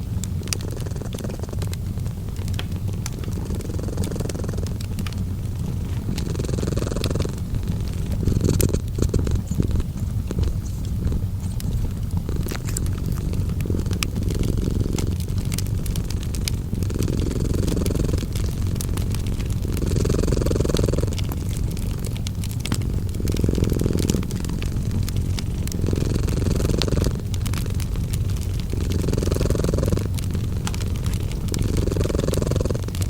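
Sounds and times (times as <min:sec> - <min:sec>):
cat purring: 0:00.0 - 0:33.0
fireplace crackling and popping: 0:00.0 - 0:33.0.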